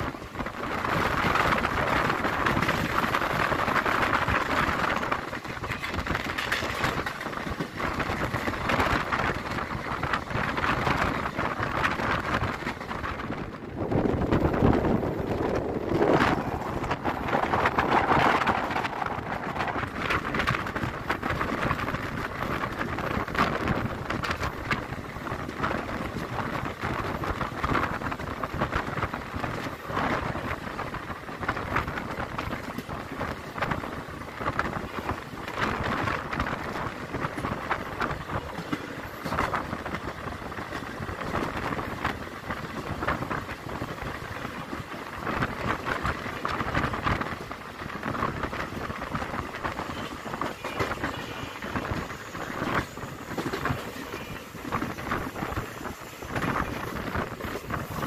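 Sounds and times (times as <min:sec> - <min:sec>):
rush of wind: 0:00.0 - 0:58.0
train wheels clattering on rails: 0:00.0 - 0:58.0.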